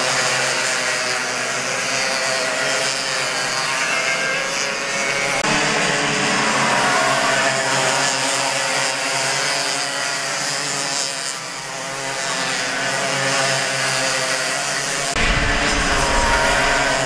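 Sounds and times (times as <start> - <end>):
kart engines buzzing: 0.0 - 17.0.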